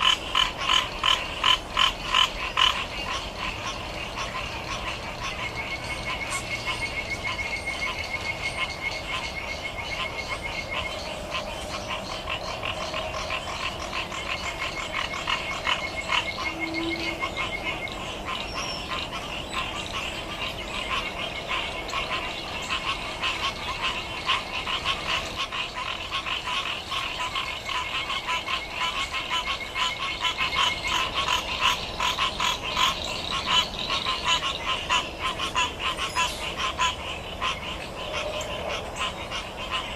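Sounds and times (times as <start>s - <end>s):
chorus of frogs clicking: 0.0s - 39.9s.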